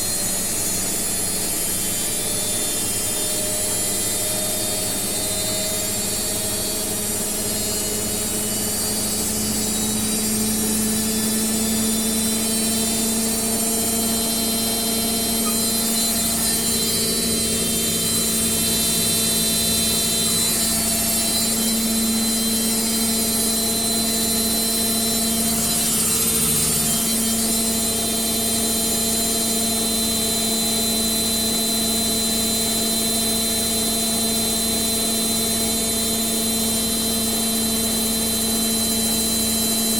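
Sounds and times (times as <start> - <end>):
washing machine spinning with whine: 0.0 - 39.9.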